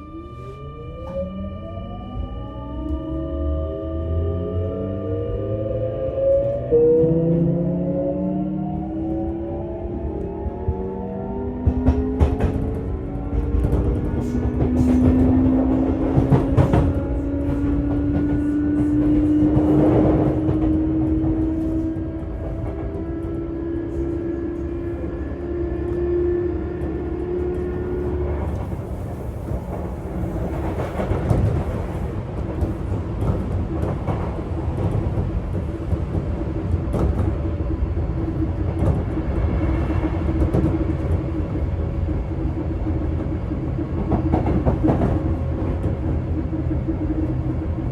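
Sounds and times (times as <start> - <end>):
train running rumble: 6.2 - 47.9.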